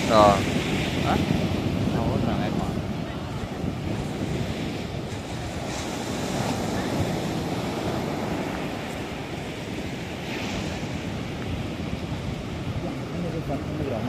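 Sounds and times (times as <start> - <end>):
surf breaking on a beach: 0.0 - 14.0
wind buffeting microphone: 0.0 - 14.0.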